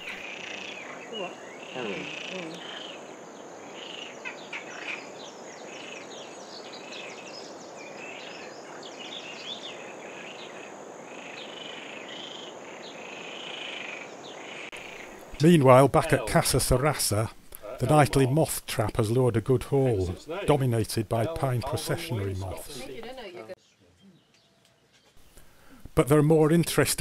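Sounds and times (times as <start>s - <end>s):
frogs croaking: 0.0s - 23.0s.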